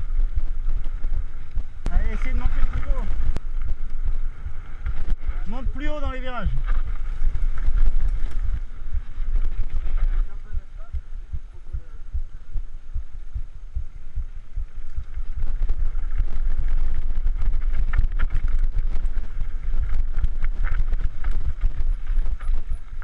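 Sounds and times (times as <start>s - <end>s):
bike rattling over stones: 0.0s - 10.9s, 14.7s - 23.0s
wind buffeting microphone: 0.0s - 23.0s.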